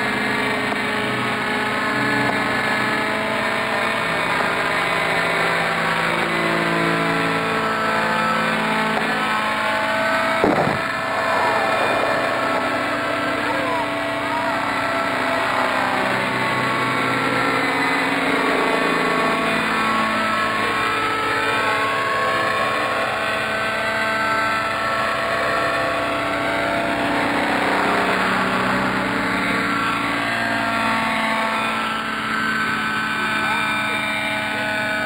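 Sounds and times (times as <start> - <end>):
model helicopters whining: 0.0 - 35.0.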